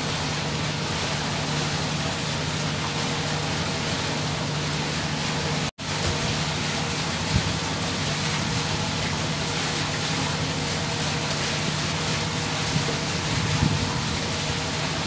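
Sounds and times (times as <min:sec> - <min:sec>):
constant wash of noise: 0:00.0 - 0:15.0.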